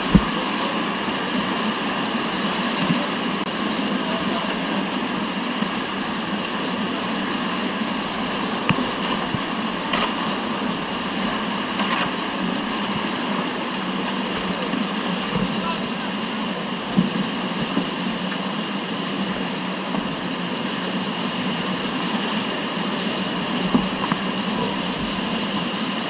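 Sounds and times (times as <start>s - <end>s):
whitewater rushing: 0.0s - 26.0s.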